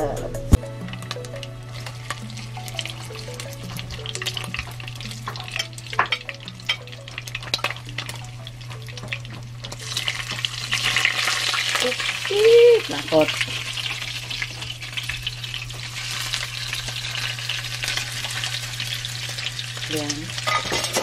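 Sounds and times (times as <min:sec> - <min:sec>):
pork frying in hot oil: 0:00.5 - 0:21.0
spitting oil crackles and pops: 0:00.5 - 0:21.0.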